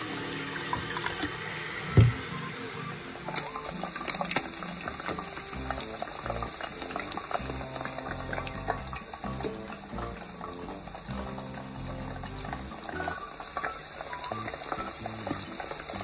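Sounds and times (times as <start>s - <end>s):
background music: 0.0s - 16.0s
meat sizzling in hot oil: 0.0s - 16.0s
oil crackling and popping: 0.0s - 16.0s.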